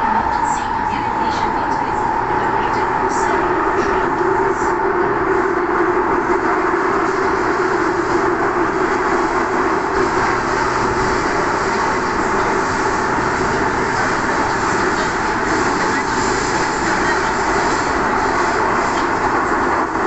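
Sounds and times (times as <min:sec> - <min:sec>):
steady droning hum: 0:00.0 - 0:20.0
train wheels rumbling on rail: 0:00.0 - 0:20.0.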